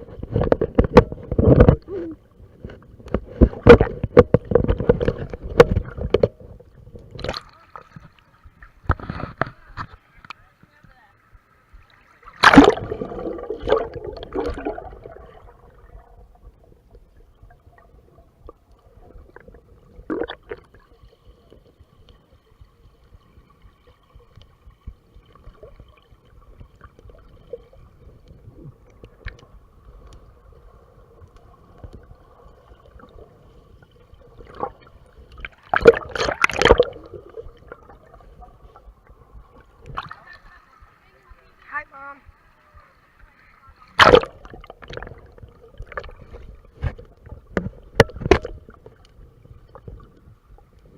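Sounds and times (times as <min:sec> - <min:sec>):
muffled water splashing: 0:00.0 - 0:50.9.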